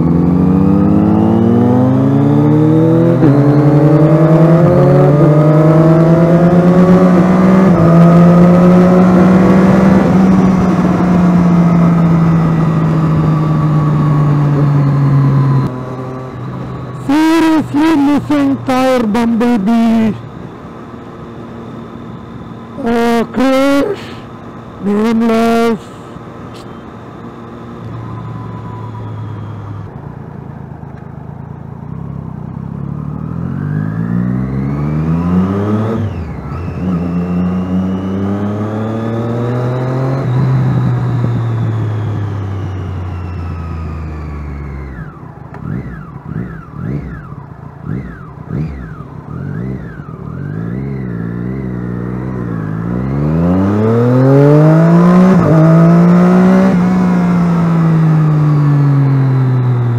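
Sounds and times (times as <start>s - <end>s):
engine revving: 0.0s - 20.2s, 22.7s - 26.8s, 32.8s - 59.9s
motorcycle engine accelerating: 0.0s - 59.9s.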